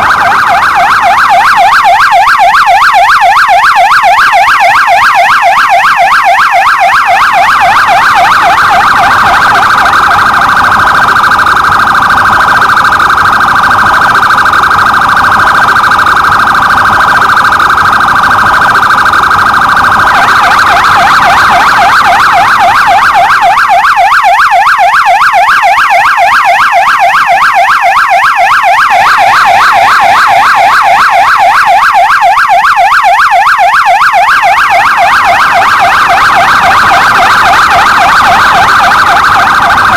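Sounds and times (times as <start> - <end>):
police siren yelp and warble: 0.0 - 39.9.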